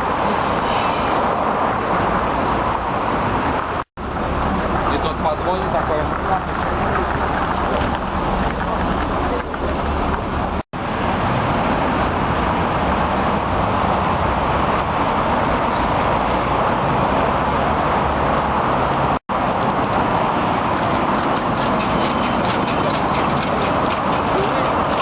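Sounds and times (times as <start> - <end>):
busy street traffic: 0.0 - 25.0.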